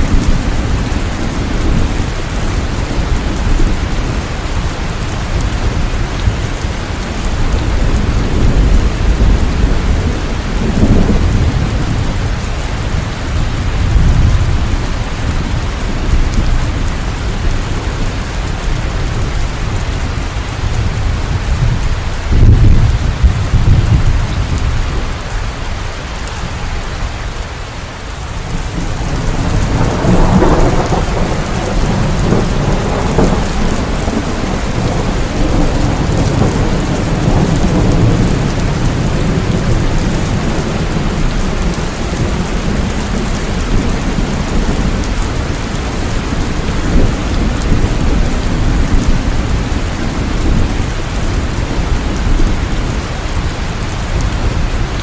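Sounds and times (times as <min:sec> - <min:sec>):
rolling thunder: 0:00.0 - 0:25.3, 0:28.4 - 0:55.0
steady rain: 0:00.0 - 0:55.0.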